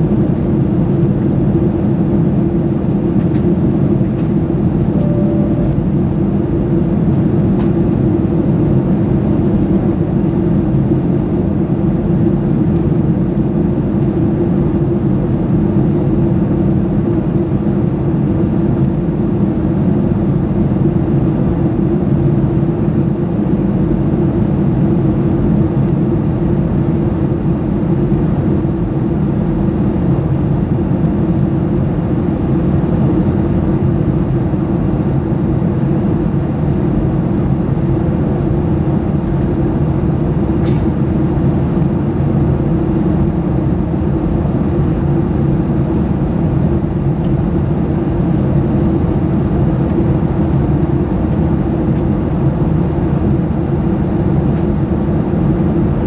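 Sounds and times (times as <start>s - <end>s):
jet engine drone: 0.0s - 56.0s.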